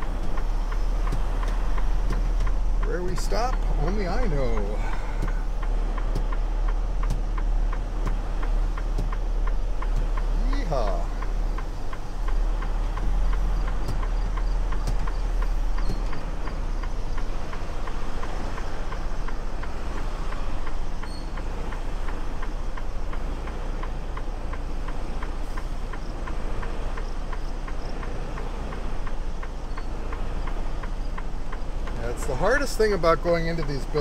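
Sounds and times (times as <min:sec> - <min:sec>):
diesel engine running: 0:00.0 - 0:34.0
fast even ticking: 0:00.0 - 0:34.0.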